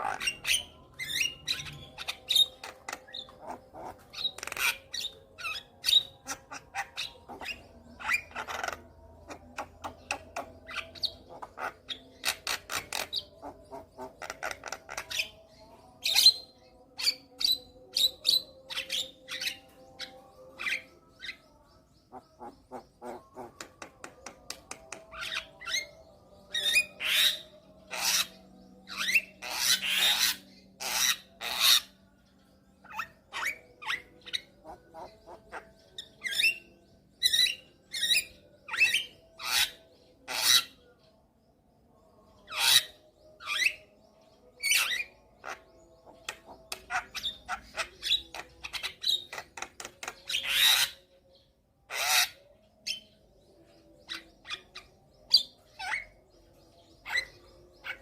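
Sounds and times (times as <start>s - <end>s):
bird harsh calls and whistles: 0.0s - 41.2s, 41.9s - 58.0s.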